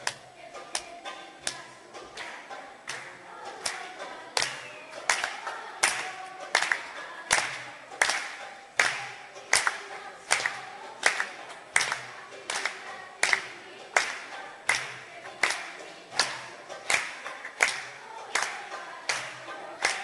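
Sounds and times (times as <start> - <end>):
girls' choir singing a cappella: 0.0 - 20.0
hands clapping on a beat: 0.0 - 20.0.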